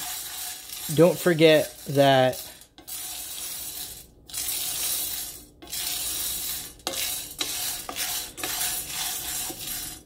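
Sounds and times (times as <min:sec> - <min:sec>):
coffee beans rattling in a pan: 0:00.0 - 0:10.0.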